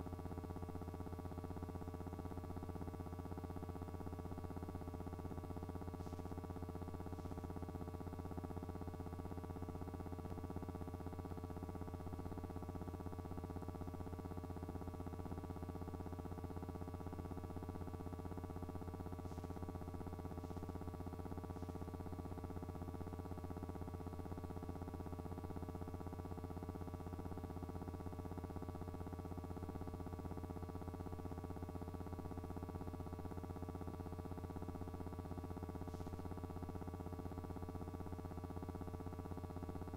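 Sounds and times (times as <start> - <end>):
electrical hum and buzz: 0.0 - 39.9.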